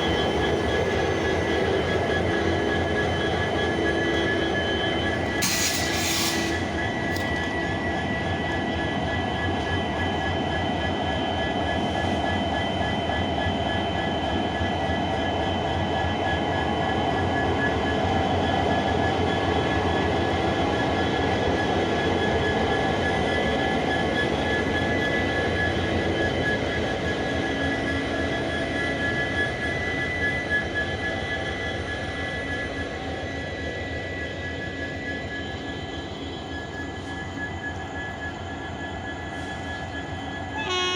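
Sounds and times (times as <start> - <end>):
diesel locomotive engine rumble: 0.0 - 40.9.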